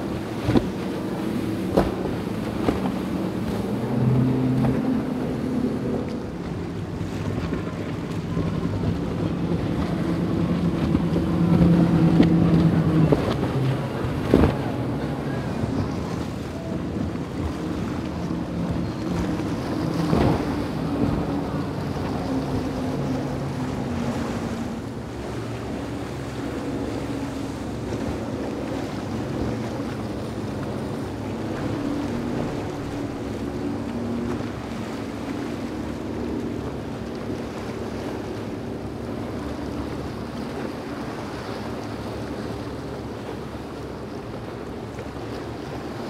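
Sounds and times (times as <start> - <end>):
motorboat engines droning: 0.0 - 46.0
wind buffeting microphone: 0.0 - 46.0.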